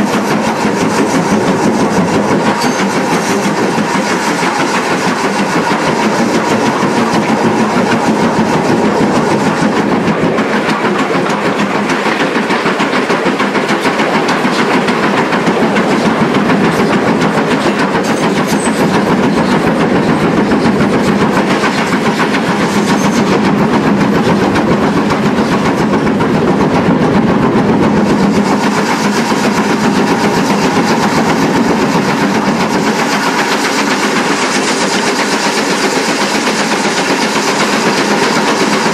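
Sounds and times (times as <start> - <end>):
locomotive running gear: 0.0 - 38.9
steam locomotive exhaust: 0.0 - 38.9
wheels on rails: 0.0 - 38.9.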